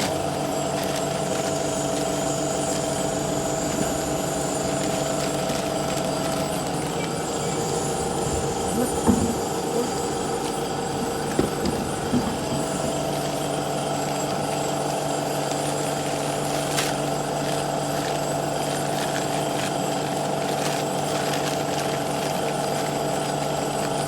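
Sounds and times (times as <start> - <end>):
motor humming: 0.0 - 24.0.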